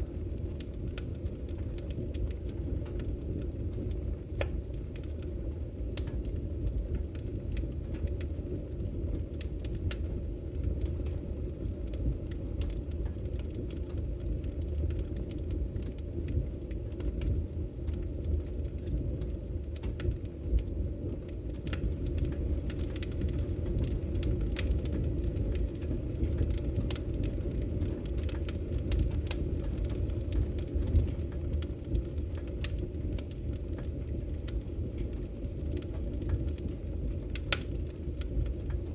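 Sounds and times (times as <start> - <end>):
fire crackling and popping: 0.0 - 38.9
fire rumbling: 0.0 - 38.9.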